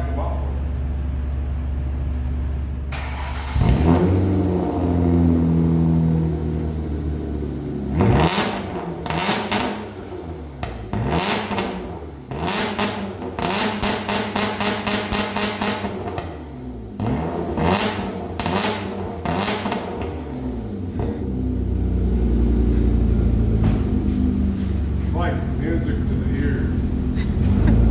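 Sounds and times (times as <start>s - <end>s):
car engine starting and idling: 0.0s - 27.9s
car engine revving in blips: 2.9s - 27.9s.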